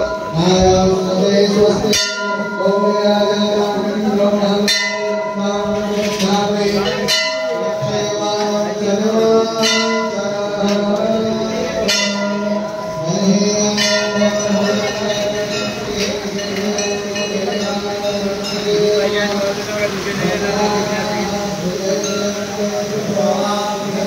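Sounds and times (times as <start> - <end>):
temple bell ringing: 0.0 - 24.0.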